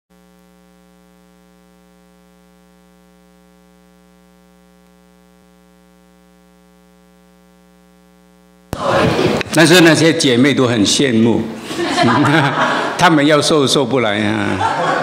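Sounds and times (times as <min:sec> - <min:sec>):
electrical mains hum: 0:00.1 - 0:15.0.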